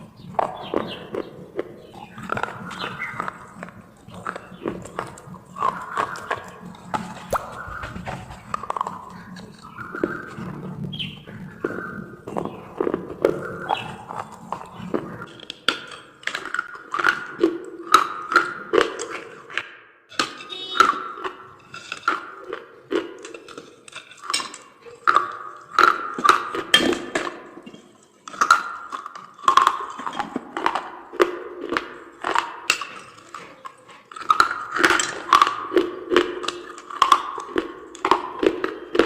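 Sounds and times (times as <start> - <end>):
clay pieces crunching when chewed: 0.0 - 39.0.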